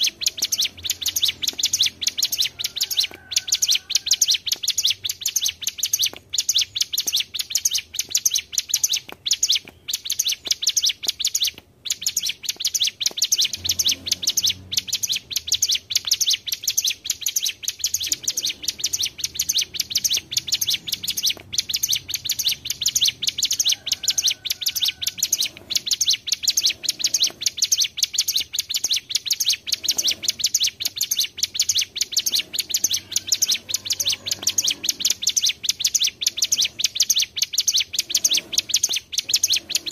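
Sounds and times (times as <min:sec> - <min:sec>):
bird singing high chirping notes: 0:00.0 - 0:39.9.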